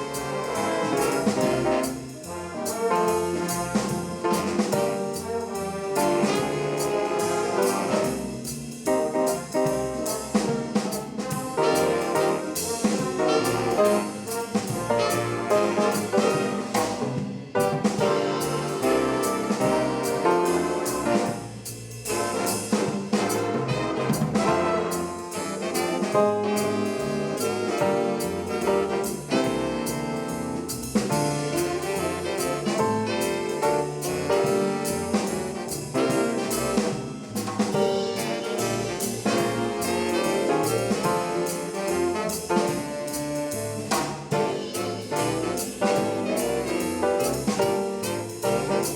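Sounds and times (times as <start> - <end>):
swing band playing jazz: 0.0 - 48.9.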